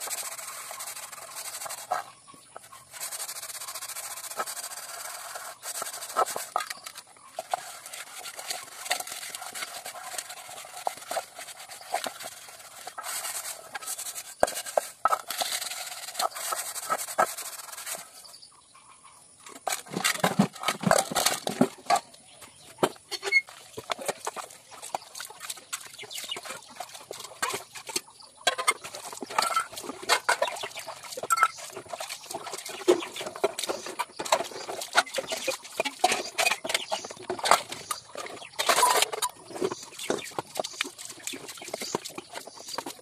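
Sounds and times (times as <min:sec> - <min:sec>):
hands scrubbing a pot: 0:00.0 - 0:18.3, 0:22.9 - 0:43.0.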